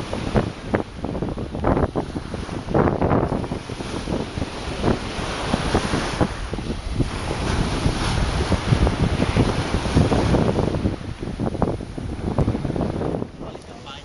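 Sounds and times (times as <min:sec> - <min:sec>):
waves washing on pebbles: 0:00.0 - 0:14.0
wind buffeting microphone: 0:00.0 - 0:14.0.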